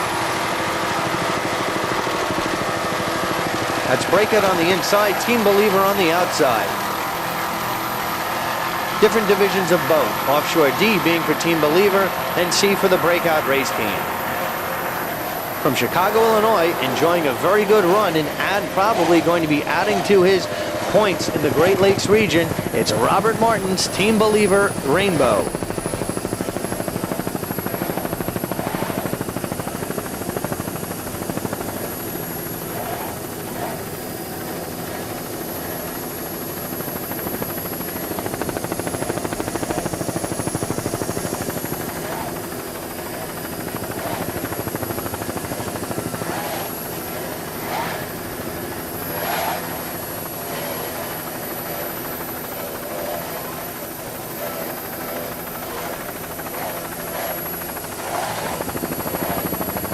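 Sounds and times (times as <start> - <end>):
helicopter drone with high whine: 0.0 - 59.9.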